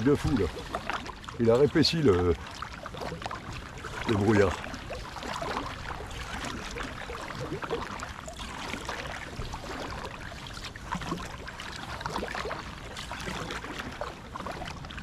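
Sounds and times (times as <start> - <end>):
kayak paddle splashing: 0.0 - 15.0.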